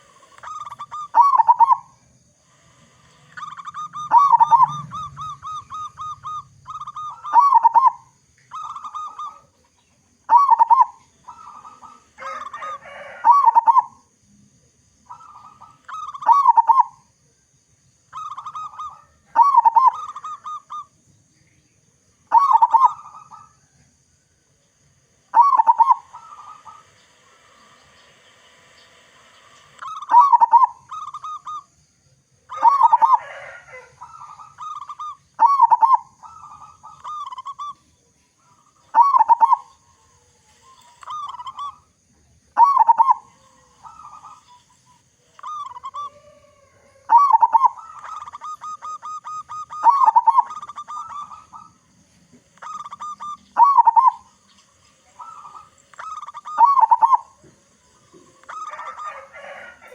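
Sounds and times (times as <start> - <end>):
dove cooing: 0.0 - 14.0, 15.1 - 17.1, 18.1 - 20.9, 22.3 - 23.8, 25.2 - 31.7, 32.4 - 41.9, 42.6 - 59.9.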